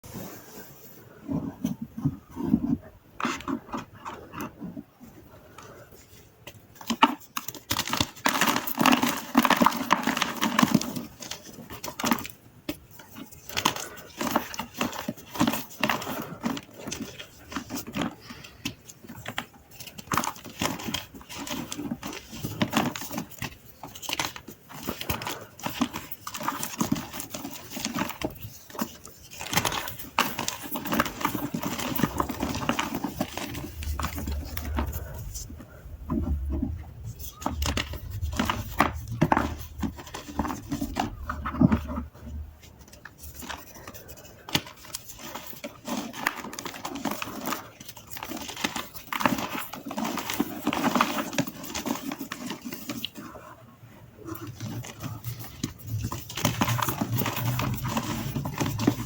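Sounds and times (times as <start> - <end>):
chalk crunching and crumbling: 0.0 - 53.6, 54.2 - 59.0.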